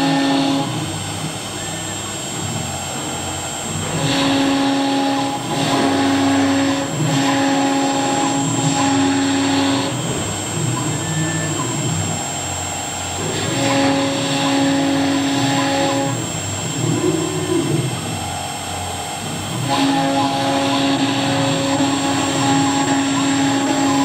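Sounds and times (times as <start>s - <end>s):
cutter hissing through wood: 0.0s - 24.0s
low machine hum: 0.0s - 24.0s
wood router spindle whine: 0.0s - 24.0s.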